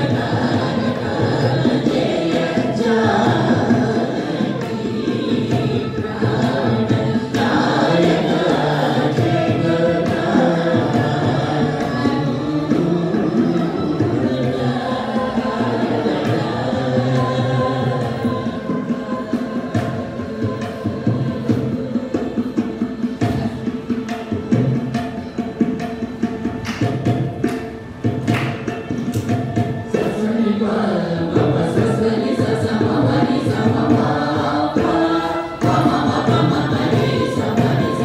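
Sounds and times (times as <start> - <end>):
group singing devotional song: 0.0 - 24.7, 29.2 - 38.0
violin: 0.0 - 38.0.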